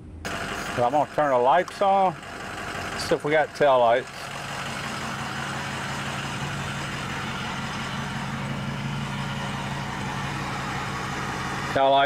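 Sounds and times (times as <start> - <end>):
pickup engine idling: 0.2 - 12.0.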